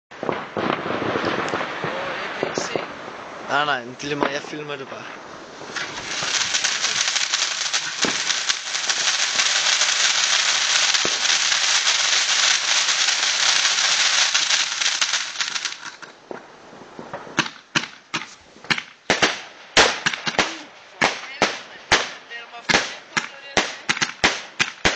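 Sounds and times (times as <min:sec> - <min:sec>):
firework fountain crackling: 0:00.1 - 0:24.9
sharp firework bangs: 0:00.1 - 0:24.9.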